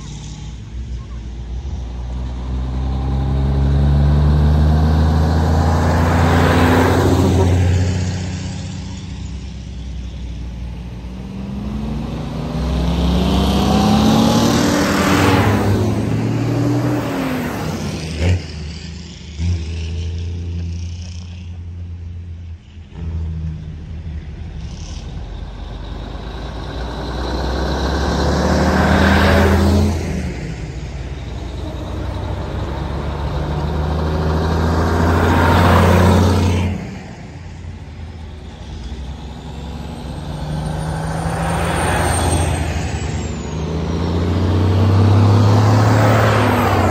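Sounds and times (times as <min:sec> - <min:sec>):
heavy trucks driving past: 0:00.0 - 0:46.9.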